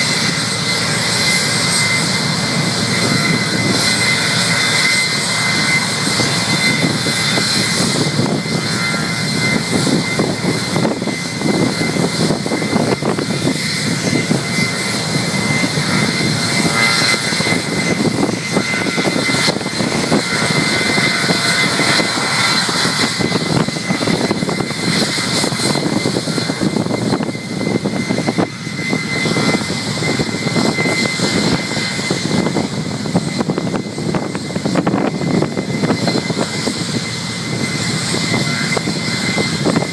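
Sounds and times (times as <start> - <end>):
high engine whine: 0.0 - 39.9
jet engine roaring: 0.0 - 39.9.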